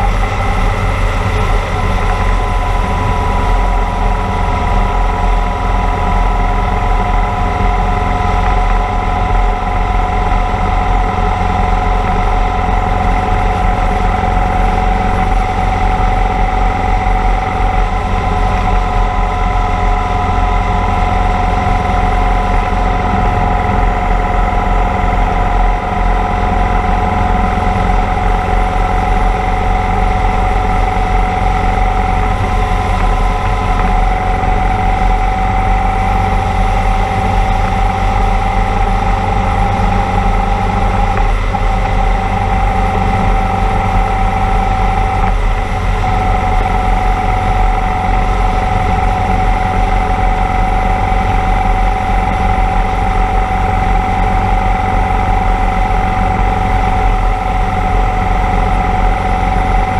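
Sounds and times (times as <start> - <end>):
motorcycle engine drone: 0.0 - 59.9
wind rumble: 0.0 - 59.9.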